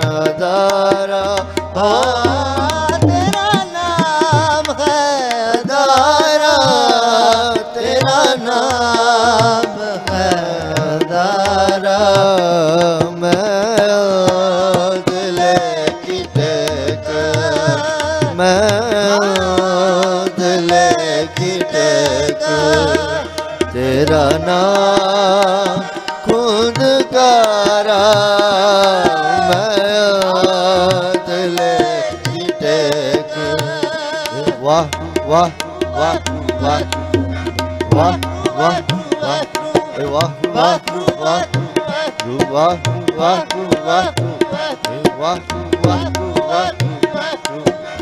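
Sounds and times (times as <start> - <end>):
harmonium: 0.0 - 48.0
man singing: 0.0 - 48.0
tabla strokes: 0.0 - 48.0.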